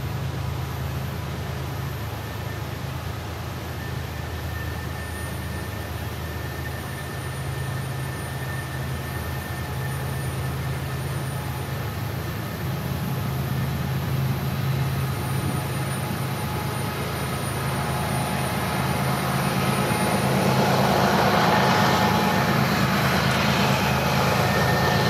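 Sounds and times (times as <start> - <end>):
diesel locomotives droning: 0.0 - 25.0
faint high whine: 0.0 - 25.0.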